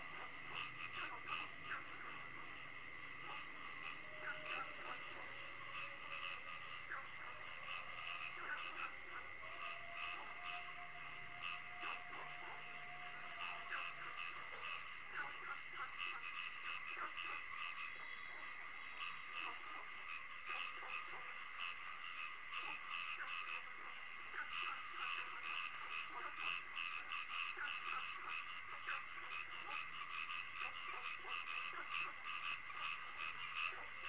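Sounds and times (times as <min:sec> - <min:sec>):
frogs croaking in chorus: 0:00.0 - 0:34.0.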